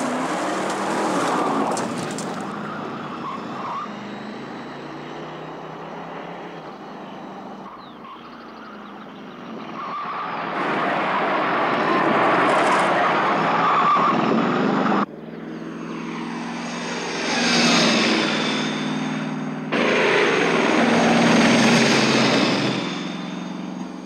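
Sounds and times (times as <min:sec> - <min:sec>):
car engine running hard: 0:00.0 - 0:24.0
tyre and road noise: 0:00.0 - 0:24.0.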